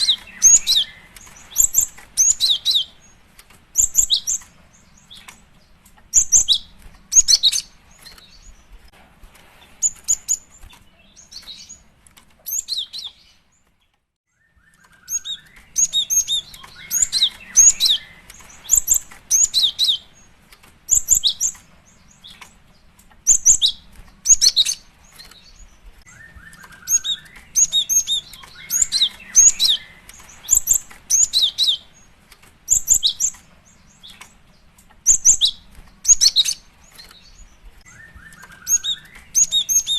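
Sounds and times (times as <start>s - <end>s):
bird high sharp chirps: 0.0s - 5.4s, 6.1s - 8.8s, 12.5s - 13.4s, 14.3s - 22.5s, 23.2s - 34.4s, 35.0s - 39.9s.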